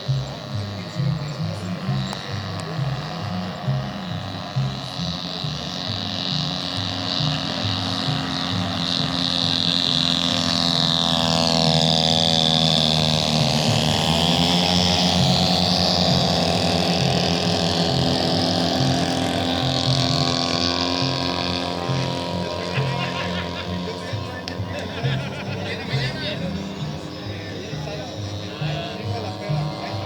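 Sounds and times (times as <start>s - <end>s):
model plane engine buzzing: 0.0s - 30.0s.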